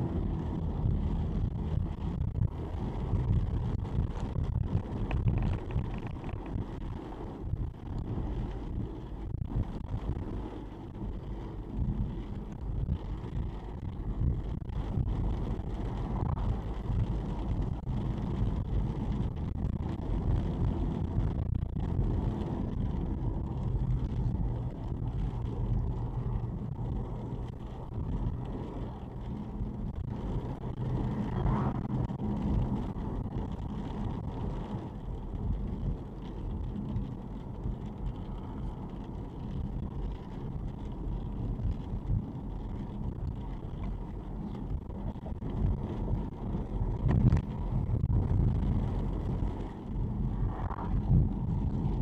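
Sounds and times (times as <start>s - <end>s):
car engine rumble: 0.0s - 52.0s
tyres on wet road: 0.0s - 52.0s.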